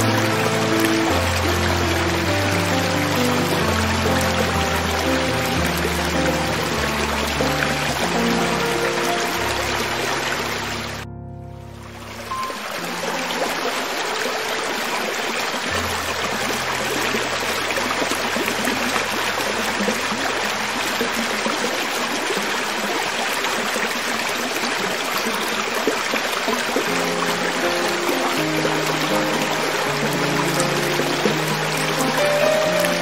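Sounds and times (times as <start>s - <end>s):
creek water over rocks: 0.0s - 11.1s, 11.7s - 33.0s.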